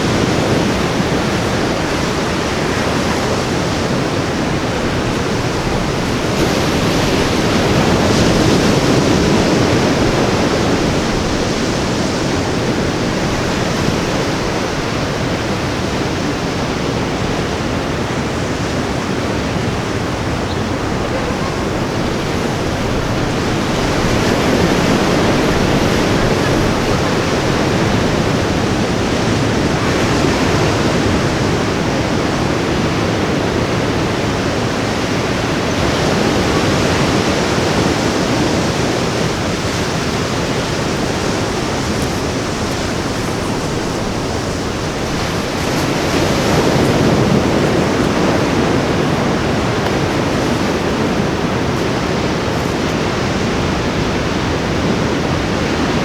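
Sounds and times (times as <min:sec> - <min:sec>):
ocean surf washing onto beach: 0:00.0 - 0:56.0.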